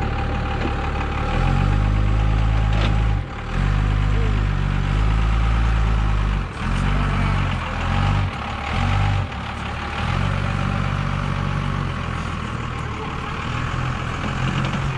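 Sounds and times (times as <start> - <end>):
pickup truck engine running: 0.0 - 14.9.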